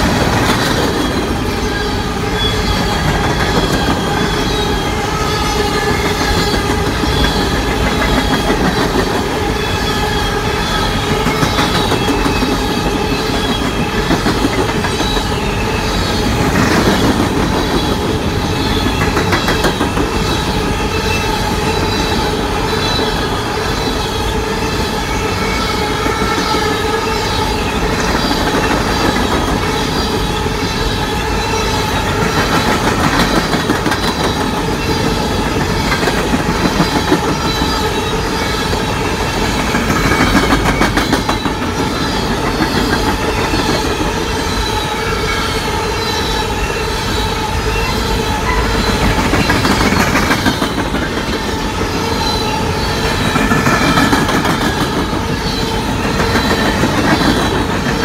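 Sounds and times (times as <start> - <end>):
clickety-clack over rail joints: 0.0 - 58.0
high wheel squeal: 0.0 - 58.0
rumble of wheels on rail: 0.0 - 58.0.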